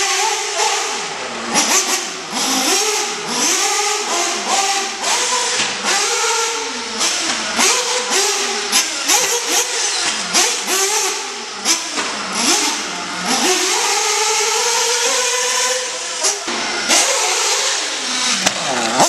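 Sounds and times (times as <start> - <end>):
rc car engine revving: 0.0 - 19.0.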